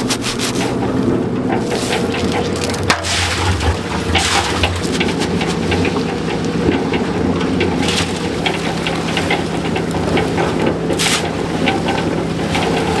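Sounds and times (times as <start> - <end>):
cement mixer motor hum: 0.0 - 13.0
concrete rattling in mixer drum: 0.0 - 13.0.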